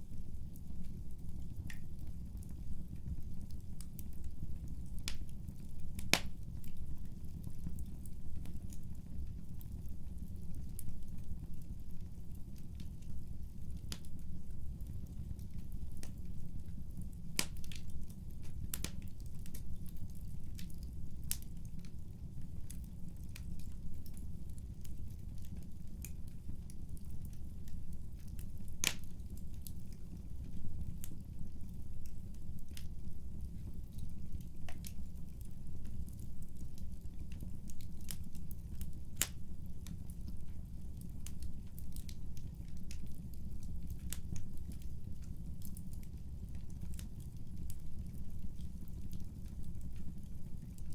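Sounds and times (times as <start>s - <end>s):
fire crackles and pops: 0.0s - 50.9s
fire low rumble: 0.0s - 50.9s.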